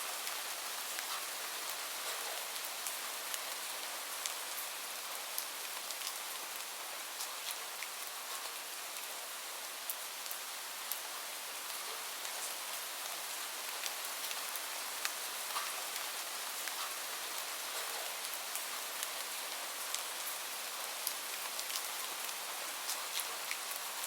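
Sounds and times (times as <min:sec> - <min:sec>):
steady rain: 0:00.0 - 0:24.0
raindrops ticking on a surface: 0:00.1 - 0:24.0.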